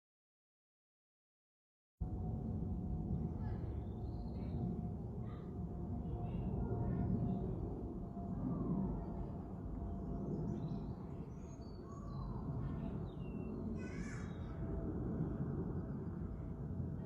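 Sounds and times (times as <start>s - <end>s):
low rumble: 2.0s - 17.0s.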